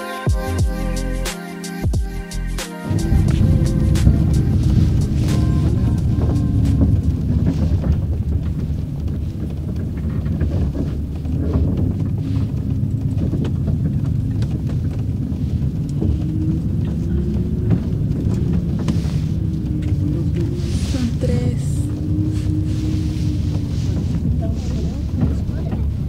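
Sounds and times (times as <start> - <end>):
low engine rumble: 2.1 - 26.0.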